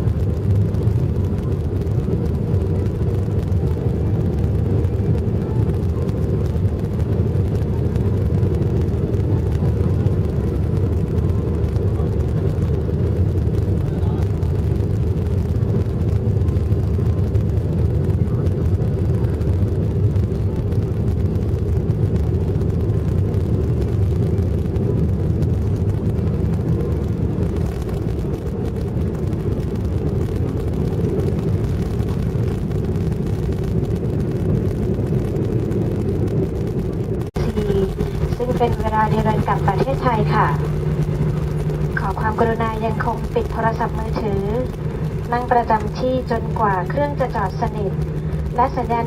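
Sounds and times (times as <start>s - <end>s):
airliner engines and airflow rumble: 0.0s - 49.0s.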